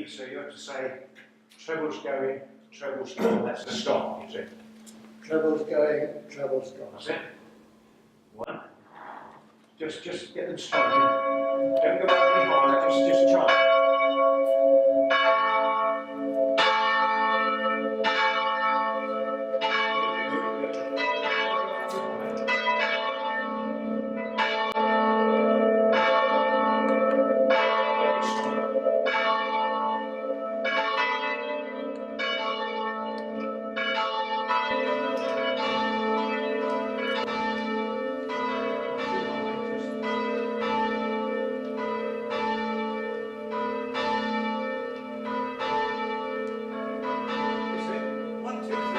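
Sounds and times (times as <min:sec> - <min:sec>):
church bells ringing: 0:00.0 - 0:00.9, 0:09.8 - 0:48.9.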